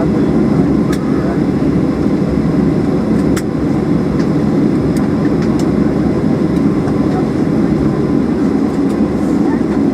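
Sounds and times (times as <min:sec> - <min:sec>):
airplane cabin rumble: 0:00.0 - 0:09.9.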